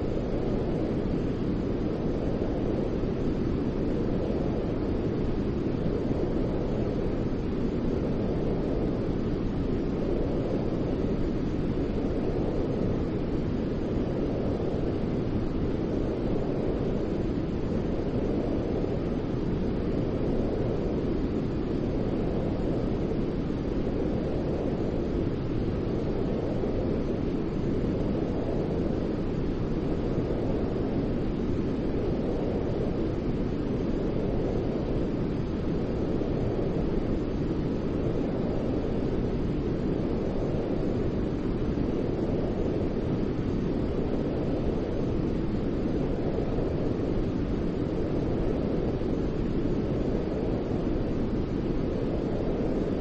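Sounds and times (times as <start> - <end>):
deep white noise hiss: 0.0 - 53.0.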